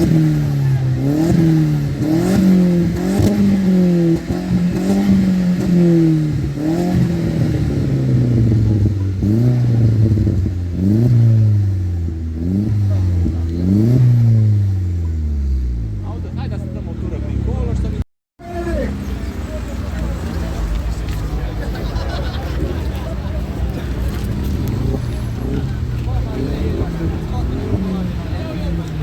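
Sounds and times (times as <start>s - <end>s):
car engine revving in blips: 0.0s - 18.0s, 18.7s - 29.0s.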